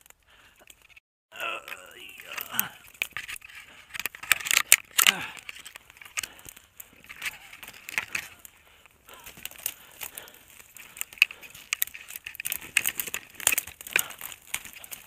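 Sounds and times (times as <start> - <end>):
dry twigs crackling and snapping: 0.0 - 15.0.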